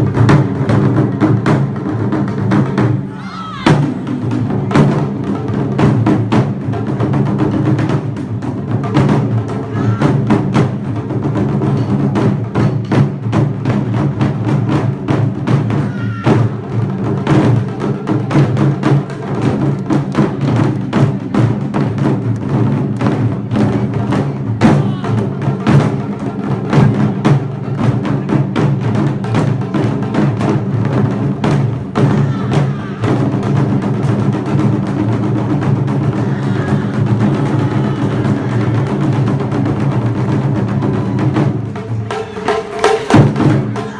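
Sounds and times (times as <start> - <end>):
rapid drum strikes: 0.0 - 43.9.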